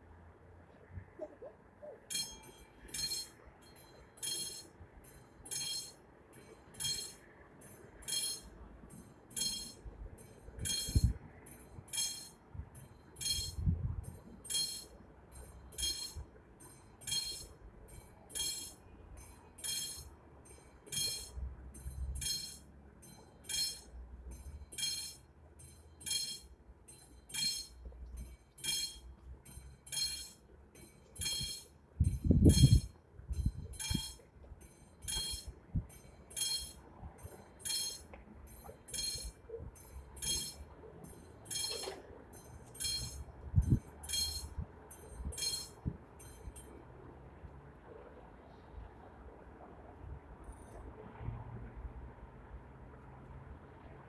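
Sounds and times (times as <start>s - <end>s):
level crossing warning bell ringing: 1.8s - 46.9s.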